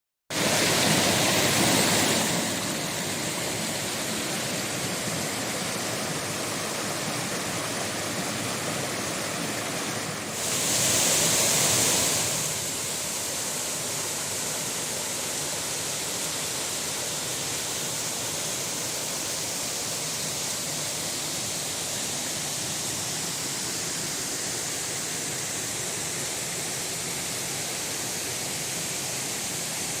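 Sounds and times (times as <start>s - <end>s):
waterfall rushing: 0.3s - 30.0s.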